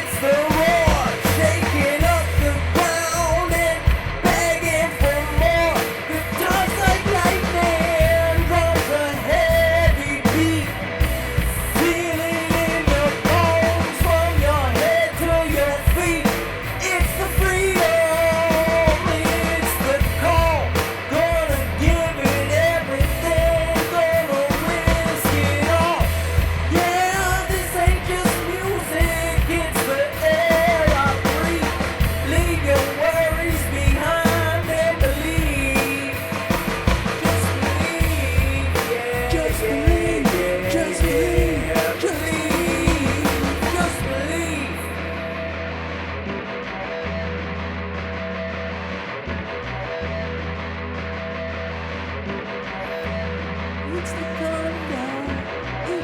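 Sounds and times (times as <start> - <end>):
instrumental rock music: 0.0 - 56.0.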